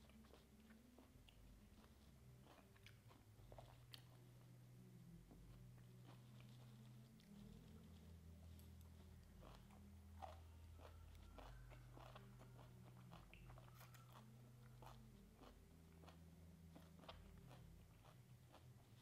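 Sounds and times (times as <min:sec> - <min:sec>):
close-up chewing: 0:00.0 - 0:04.4, 0:05.3 - 0:19.0
low steady hum: 0:00.0 - 0:19.0.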